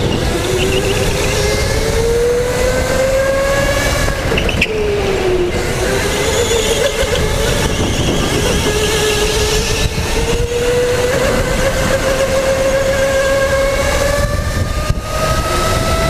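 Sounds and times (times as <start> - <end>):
electric motor whining: 0.0 - 16.0
wind rush: 0.0 - 16.0.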